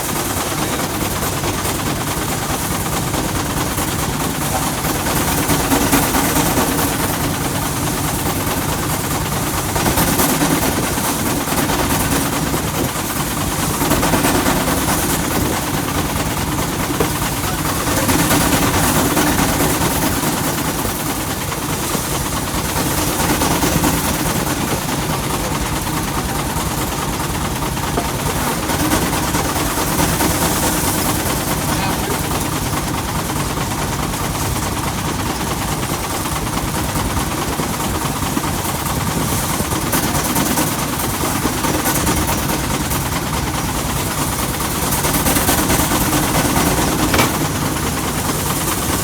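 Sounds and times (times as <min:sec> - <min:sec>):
threshing machine rattling hiss: 0:00.0 - 0:49.0
tractor engine chugging: 0:00.0 - 0:49.0.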